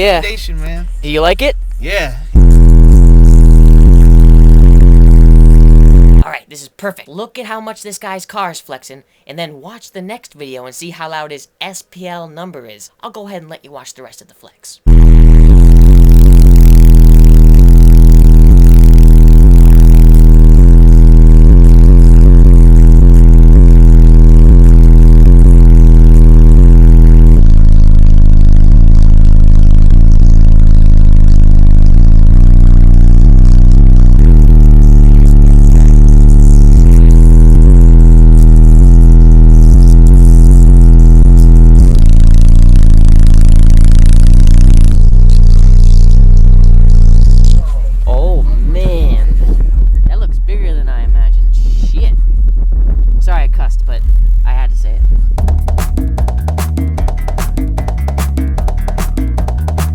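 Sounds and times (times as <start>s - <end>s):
distorted bass-heavy music: 0.0s - 6.3s, 14.9s - 59.9s.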